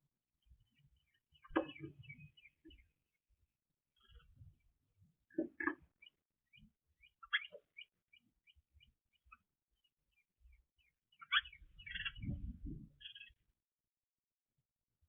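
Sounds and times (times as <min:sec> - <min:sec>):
small birds chirping: 0:00.4 - 0:13.6.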